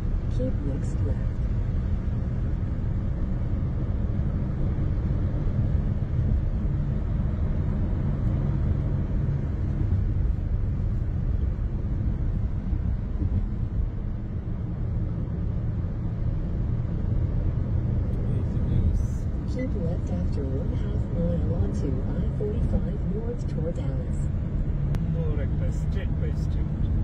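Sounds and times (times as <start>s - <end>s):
road noise inside car: 0.0s - 27.0s.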